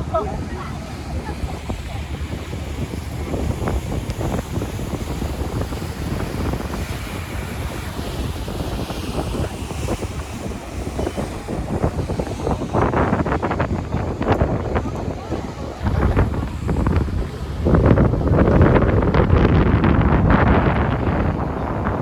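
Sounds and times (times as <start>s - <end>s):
boat engine running: 0.0s - 22.0s
water rushing: 0.0s - 22.0s
wind buffeting microphone: 0.0s - 22.0s.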